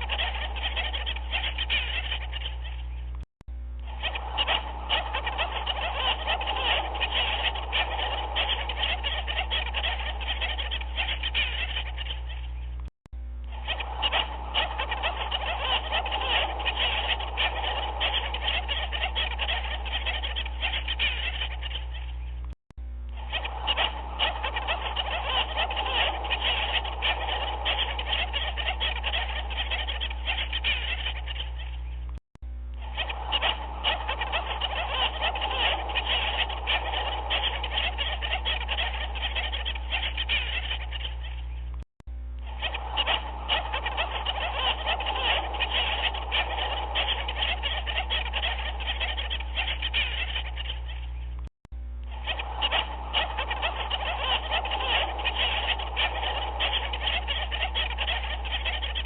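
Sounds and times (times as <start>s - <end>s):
chorus of animals croaking: 0.0s - 3.2s, 3.8s - 12.8s, 13.5s - 22.5s, 23.1s - 32.1s, 32.8s - 41.8s, 42.4s - 51.4s, 52.1s - 59.0s
steady low hum: 0.0s - 59.0s.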